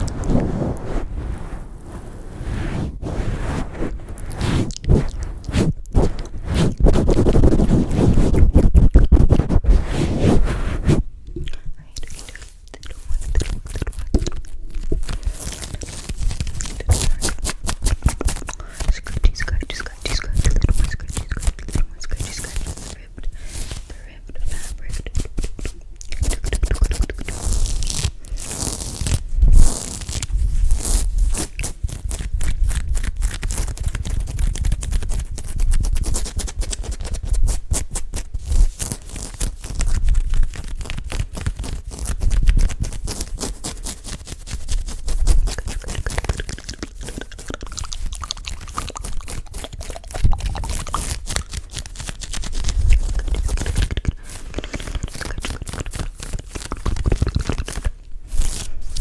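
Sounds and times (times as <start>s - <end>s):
hands rubbing on microphone: 0.0s - 11.1s, 12.0s - 59.0s.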